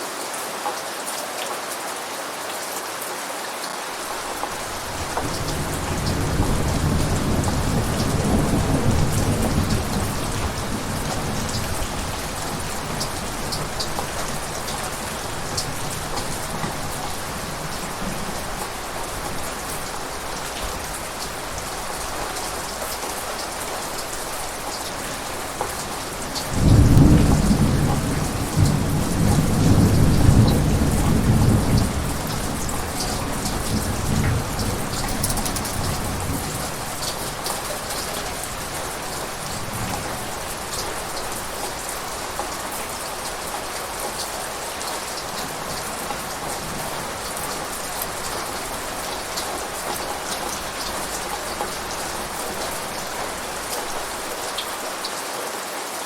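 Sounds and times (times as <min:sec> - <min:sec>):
steady rain: 0:00.0 - 0:56.0
thunder rumbling: 0:04.2 - 0:54.6.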